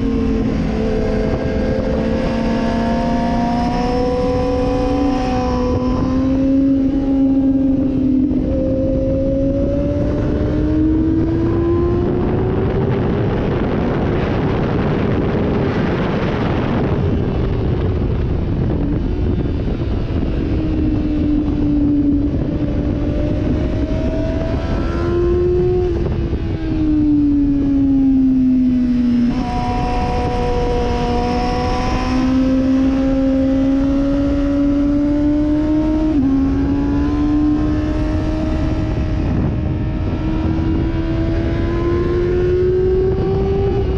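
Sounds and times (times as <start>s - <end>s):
motorcycle engine revving: 0.0s - 43.9s
wind noise: 0.0s - 43.9s.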